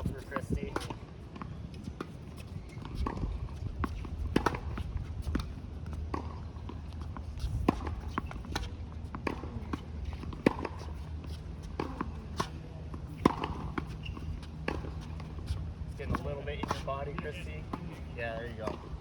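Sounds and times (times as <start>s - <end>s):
tennis balls bouncing on court: 0.0s - 19.0s
tennis balls struck by rackets: 0.0s - 19.0s.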